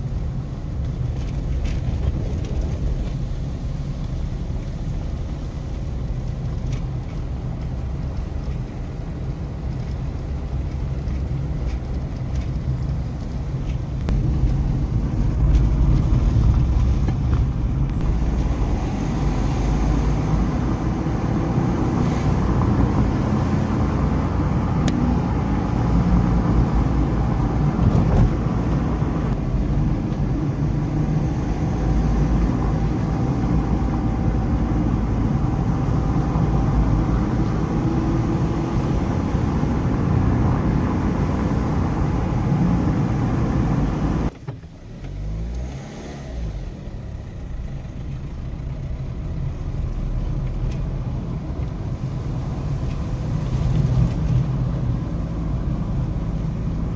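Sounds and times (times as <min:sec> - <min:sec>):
car engine hum: 0:00.0 - 0:56.9
road and wind noise: 0:00.0 - 0:56.9.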